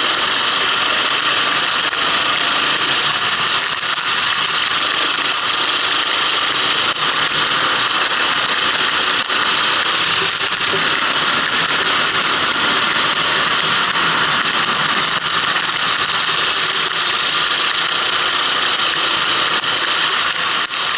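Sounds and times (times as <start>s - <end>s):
kart engine running: 0.0s - 20.9s
steady loud hiss: 0.0s - 20.9s.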